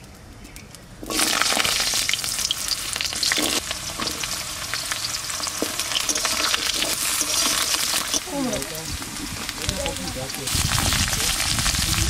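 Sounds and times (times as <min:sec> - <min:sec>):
potatoes sizzling in hot oil: 0:01.0 - 0:12.0.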